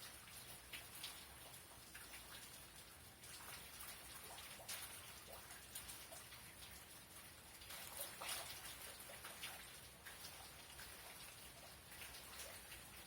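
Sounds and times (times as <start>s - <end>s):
drops and drips ticking: 0.0s - 13.0s
faint rain falling: 0.0s - 13.0s.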